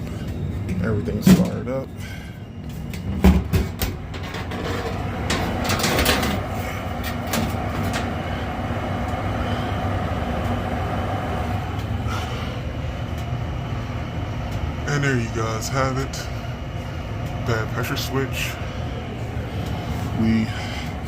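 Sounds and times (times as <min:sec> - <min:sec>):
furnace burners rushing: 0:00.0 - 0:21.0
low hum: 0:00.0 - 0:21.0.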